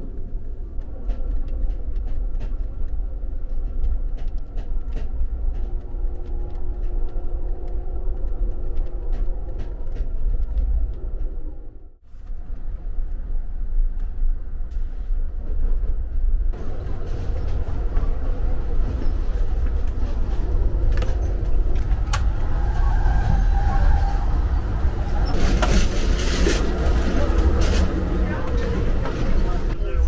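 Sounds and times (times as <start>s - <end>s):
train interior rumble: 0.0s - 30.0s.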